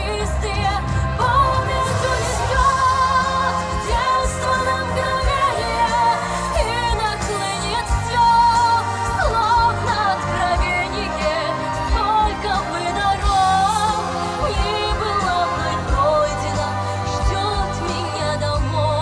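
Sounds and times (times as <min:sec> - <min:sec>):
live band playing: 0:00.0 - 0:19.0
person singing with vibrato: 0:00.0 - 0:19.0.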